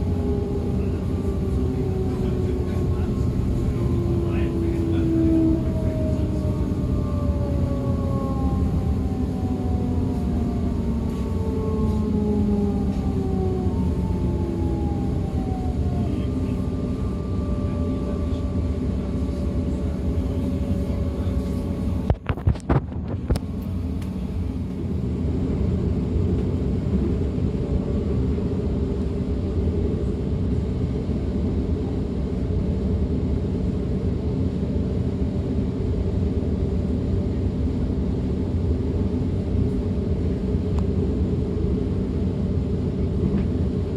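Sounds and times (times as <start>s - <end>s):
train running rumble: 0.0s - 43.9s.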